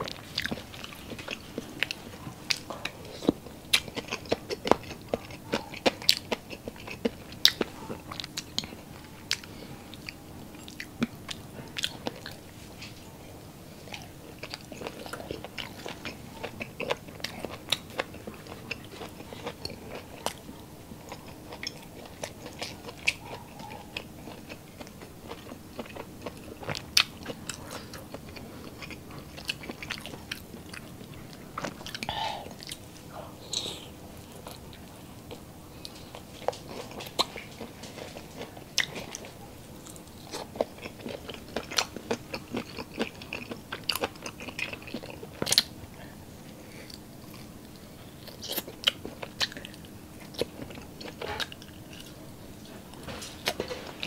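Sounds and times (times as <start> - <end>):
person chewing and biting: 0.0 - 13.0, 13.8 - 45.7, 48.2 - 52.2.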